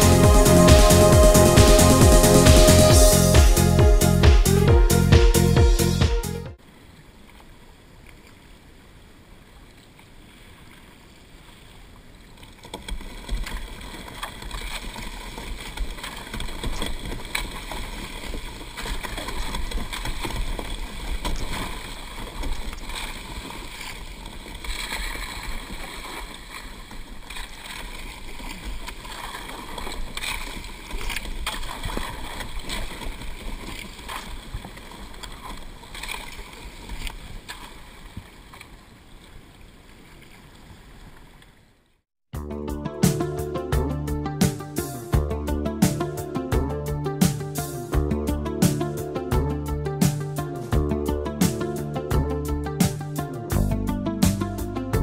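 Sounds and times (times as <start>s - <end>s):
water along hull: 0.0s - 5.0s, 6.5s - 55.0s
paddle splashes: 6.6s - 41.8s, 44.4s - 46.6s, 47.2s - 48.0s, 48.6s - 54.6s.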